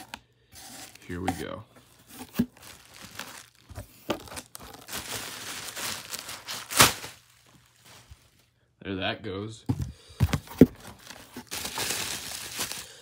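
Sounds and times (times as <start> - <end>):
bubble wrap crinkling: 0.0 - 8.6, 10.6 - 13.0.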